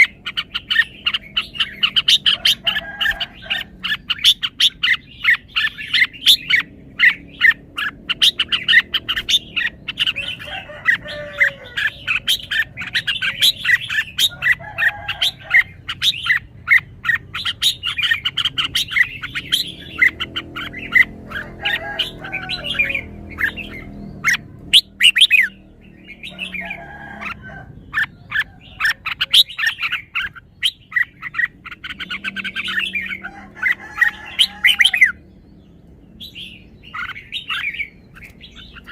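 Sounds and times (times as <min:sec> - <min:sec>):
bird chirping song: 0:00.0 - 0:38.9.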